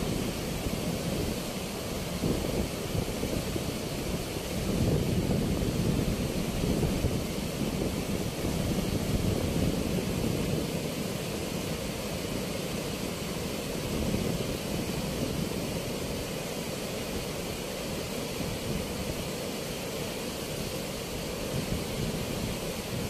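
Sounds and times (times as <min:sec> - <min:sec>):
water roaring through sluice gates: 0:00.0 - 0:23.0.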